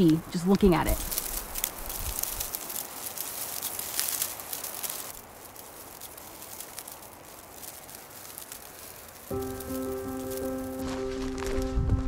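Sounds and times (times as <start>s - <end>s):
ants crawling crackling rustle: 0.0s - 11.9s.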